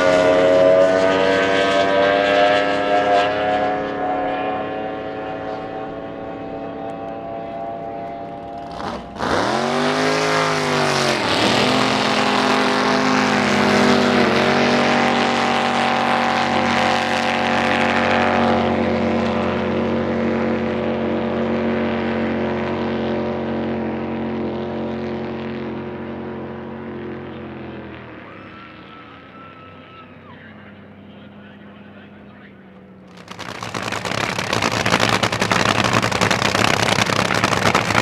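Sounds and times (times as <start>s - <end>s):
drag boat engine at full throttle: 0.0s - 38.0s.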